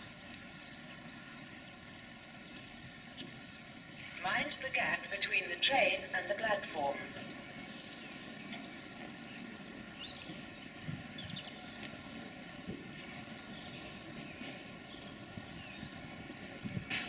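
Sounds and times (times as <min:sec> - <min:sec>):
diesel railcar engine drone: 0:00.0 - 0:17.0.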